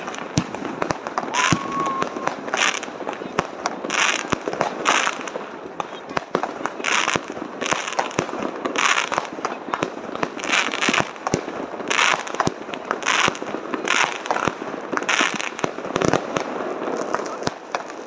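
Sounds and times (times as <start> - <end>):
fireworks bangs: 0.0 - 18.0
hissing crackle of fireworks: 0.0 - 18.0.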